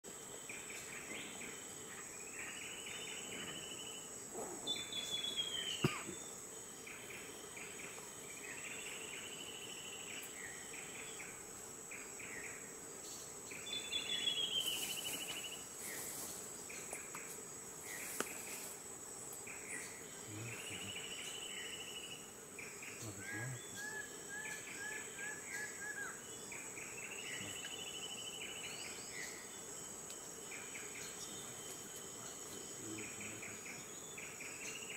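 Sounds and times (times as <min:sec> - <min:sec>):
insects droning: 0:00.0 - 0:34.9.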